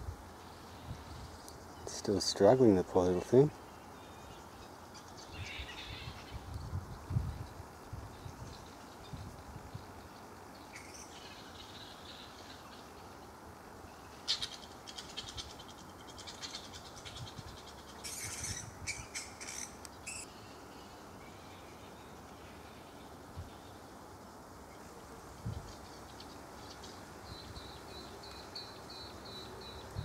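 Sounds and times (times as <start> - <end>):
small birds chirping: 0.3 - 30.0.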